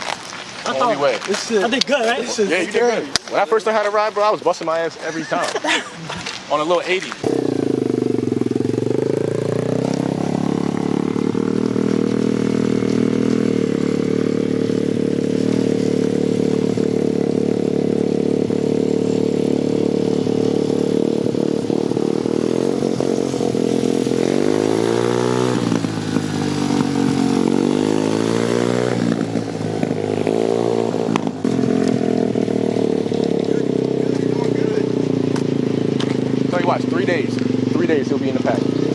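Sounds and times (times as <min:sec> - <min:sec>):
dirt bike engine revving: 0:06.7 - 0:38.9.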